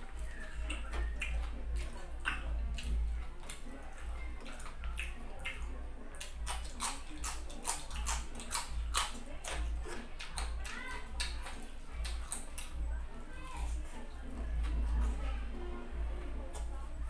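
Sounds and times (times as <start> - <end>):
wet chewing and lip smacking: 0.0 - 15.0.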